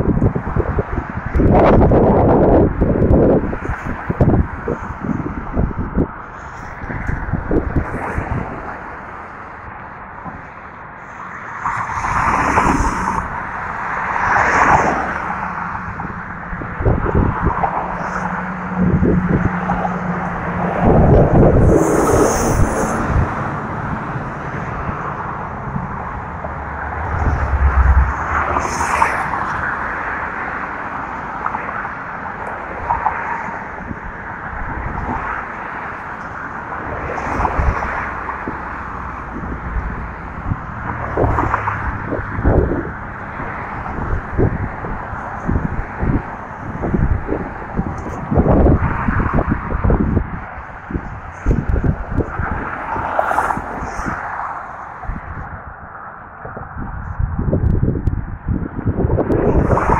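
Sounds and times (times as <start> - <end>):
traffic passing: 0.0 - 59.9
wind buffeting microphone: 0.0 - 59.9.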